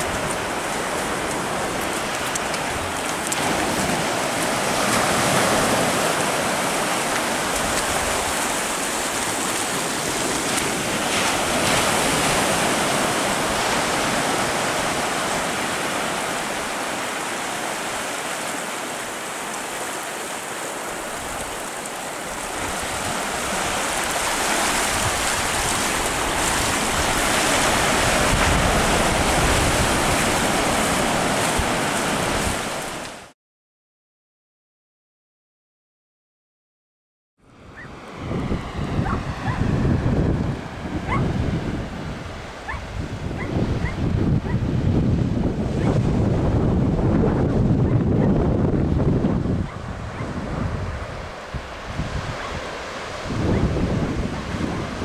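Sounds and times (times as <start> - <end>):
surf breaking on beach: 0.0 - 33.3, 37.6 - 55.0.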